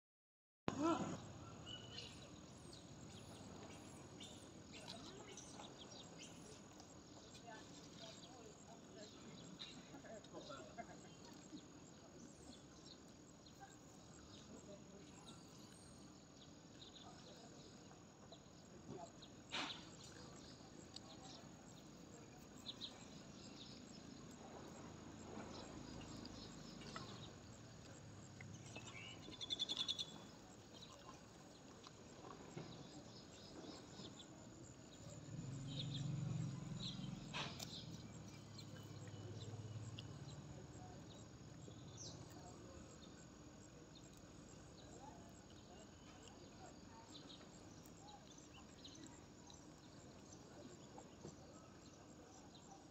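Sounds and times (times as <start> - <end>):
insects chirping: 1.2 - 52.8.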